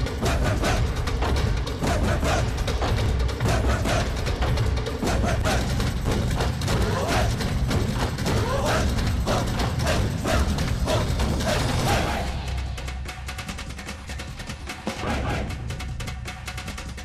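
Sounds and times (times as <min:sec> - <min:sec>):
barrel drums and tom-toms beating: 0:00.0 - 0:17.0.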